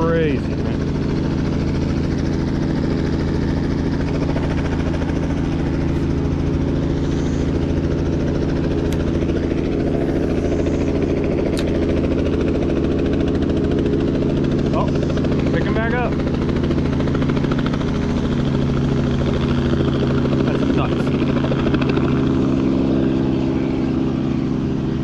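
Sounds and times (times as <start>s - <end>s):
helicopter engine and rotor idling: 0.0s - 25.0s.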